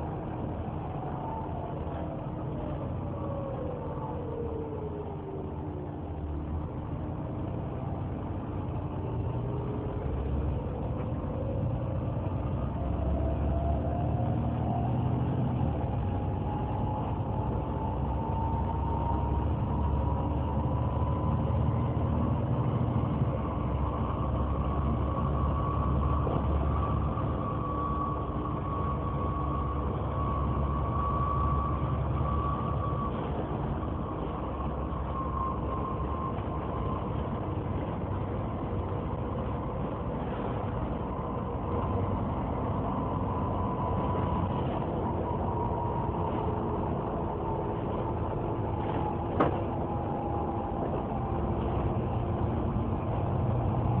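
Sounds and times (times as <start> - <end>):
bus cooling fan whining: 0.0 - 54.0
diesel engine rumble: 0.0 - 54.0.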